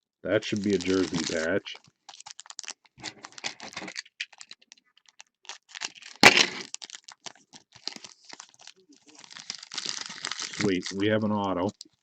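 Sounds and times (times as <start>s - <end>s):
cards and packaging rustling: 0.4s - 12.0s
packaging crackle: 0.5s - 12.0s.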